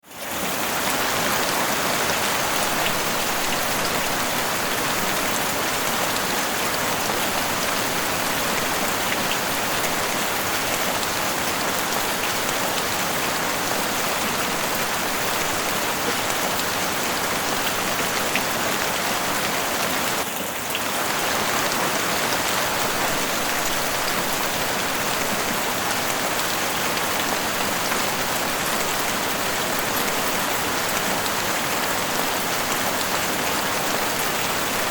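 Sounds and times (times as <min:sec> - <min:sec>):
heavy rain on roof: 0:00.0 - 0:34.9.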